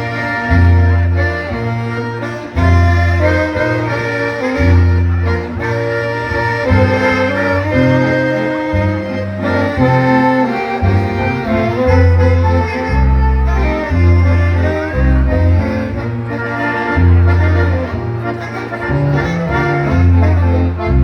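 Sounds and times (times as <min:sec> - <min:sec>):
dance band playing a waltz: 0:00.0 - 0:21.0.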